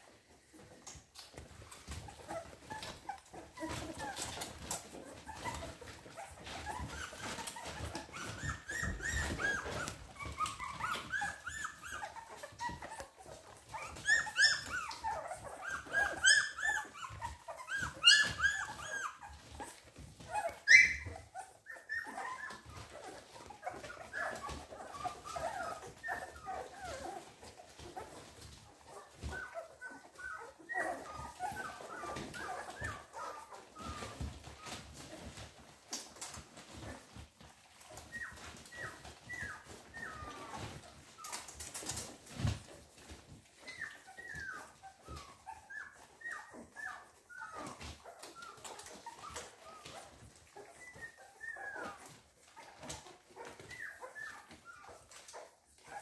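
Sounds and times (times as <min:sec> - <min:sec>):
puppies squeaking and whimpering: 0:00.1 - 0:56.0.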